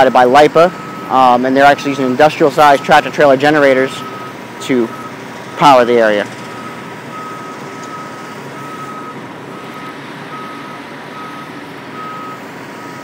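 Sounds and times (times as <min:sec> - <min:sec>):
engines rumbling: 0:00.0 - 0:13.0
reversing alarm beeping: 0:00.6 - 0:05.2, 0:06.4 - 0:13.0.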